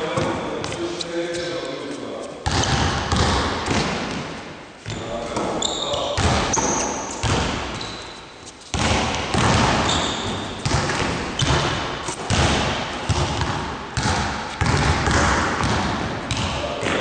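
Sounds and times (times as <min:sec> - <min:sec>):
basketballs bouncing on wooden floor: 0:00.0 - 0:01.5, 0:02.4 - 0:17.0.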